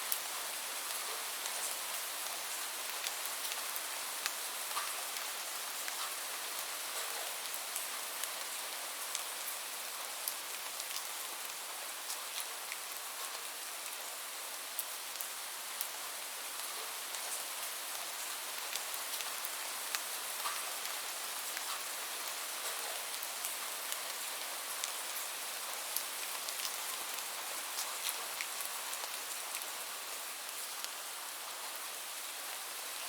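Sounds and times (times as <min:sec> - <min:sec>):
light rain falling: 0:00.0 - 0:33.0.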